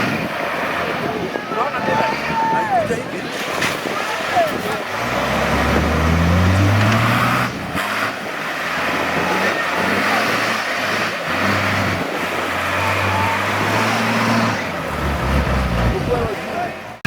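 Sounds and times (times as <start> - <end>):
engine revving under load: 3.3 - 17.0.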